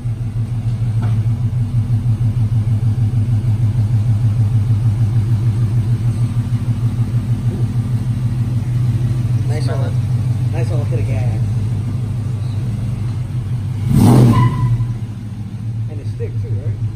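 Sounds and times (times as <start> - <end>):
engine idling low exhaust note: 0.0 - 16.9.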